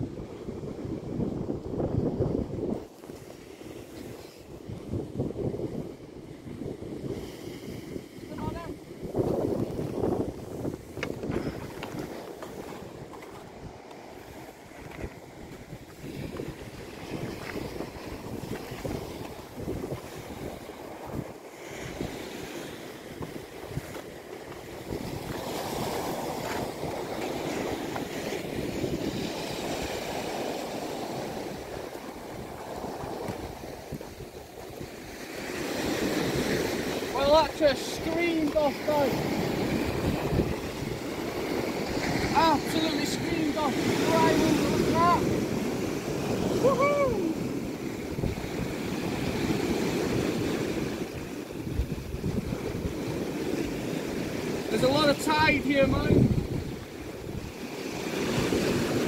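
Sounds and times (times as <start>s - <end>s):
waves breaking on rocky shore: 0.0s - 59.0s
wind rumbling on microphone: 0.0s - 59.0s.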